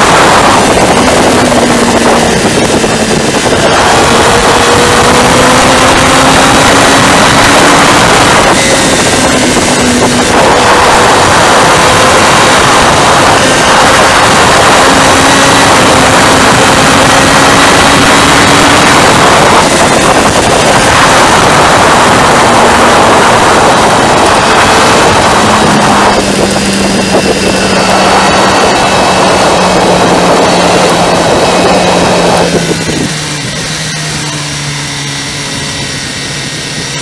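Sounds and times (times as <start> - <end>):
motorcycle engine running: 0.0 - 37.0
wind rush: 0.0 - 37.0.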